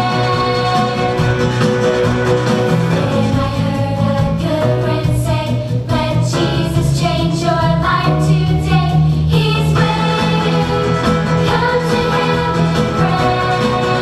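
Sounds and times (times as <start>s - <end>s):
instrumental accompaniment with bass: 0.0s - 14.0s.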